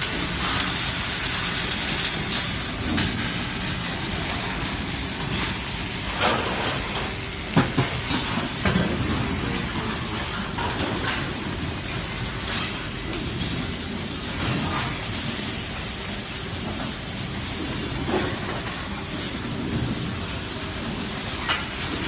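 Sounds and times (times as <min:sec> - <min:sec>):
welding crackles and clicks: 0:00.0 - 0:22.0.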